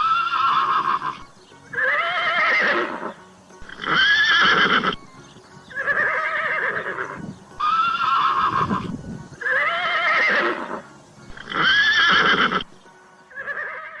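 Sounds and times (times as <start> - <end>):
horse whinnying: 0.0 - 12.7, 13.4 - 14.0.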